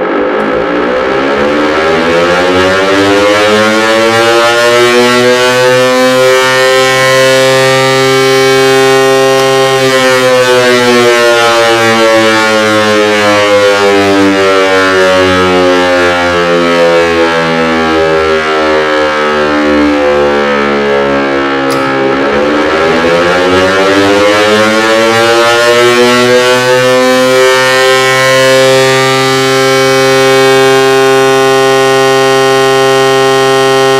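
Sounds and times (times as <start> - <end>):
electric siren howling: 0.0 - 33.9.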